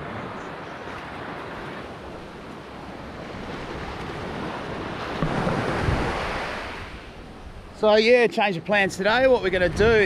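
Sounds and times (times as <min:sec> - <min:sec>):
small waves washing onto sand: 0:00.0 - 0:10.0
wind buffeting microphone: 0:01.0 - 0:07.9, 0:08.8 - 0:10.0.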